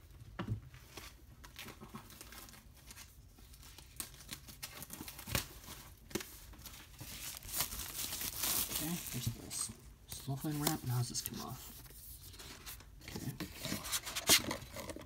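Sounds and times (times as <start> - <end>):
cellophane crinkling: 0.8 - 15.0.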